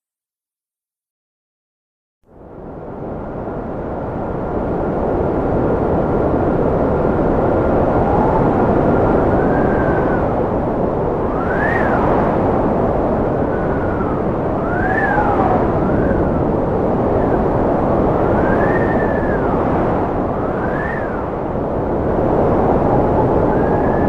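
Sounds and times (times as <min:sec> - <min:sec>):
wind blowing hard: 0:02.4 - 0:24.0
wind whistling: 0:02.4 - 0:24.0.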